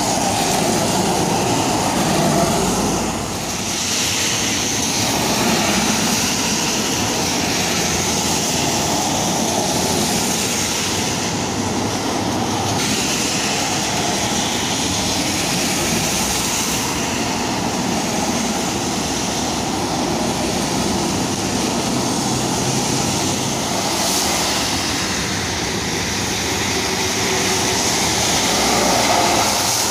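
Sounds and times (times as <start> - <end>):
tyres hissing on wet road: 0.0 - 29.9.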